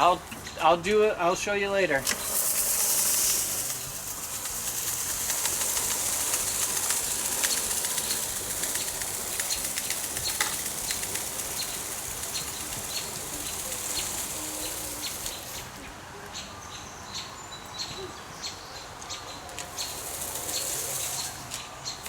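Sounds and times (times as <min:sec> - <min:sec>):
steady rain falling: 0:01.4 - 0:16.4, 0:18.9 - 0:22.0.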